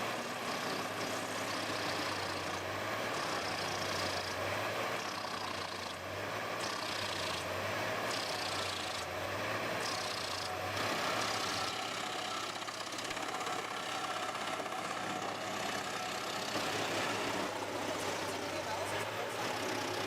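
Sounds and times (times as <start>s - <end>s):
wood chipper engine running: 0.0s - 20.0s.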